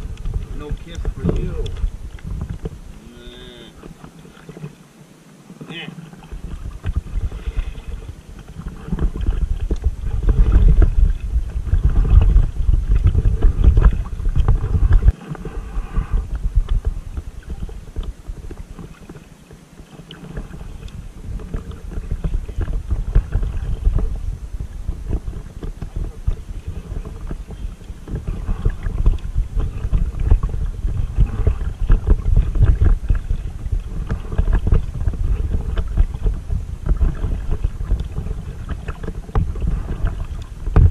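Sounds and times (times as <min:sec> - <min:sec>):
wind rumble on microphone: 0:00.0 - 0:04.9, 0:05.7 - 0:40.9
paddle water splashing: 0:00.0 - 0:40.9.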